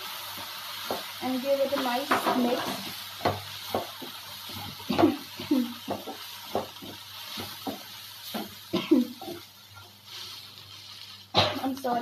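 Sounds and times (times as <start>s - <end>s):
faint sizzle: 0.0s - 12.0s
spatula scraping a frying pan: 1.6s - 12.0s.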